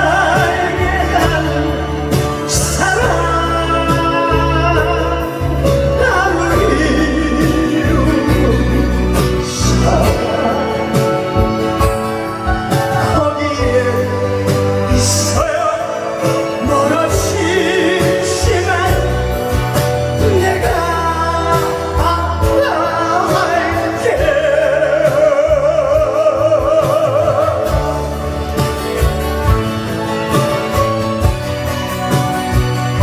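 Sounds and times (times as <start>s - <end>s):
amplified backing music: 0.0s - 33.0s
person singing: 0.0s - 33.0s.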